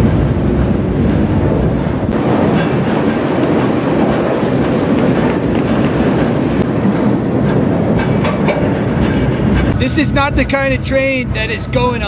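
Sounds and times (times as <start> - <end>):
train rumbling: 0.0 - 12.0
wheels clicking over rails: 0.0 - 12.0.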